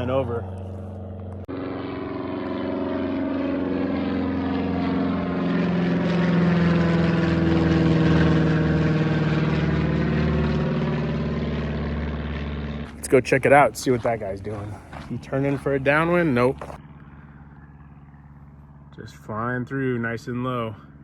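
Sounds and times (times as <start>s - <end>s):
propeller airplane passing overhead: 0.0s - 21.0s.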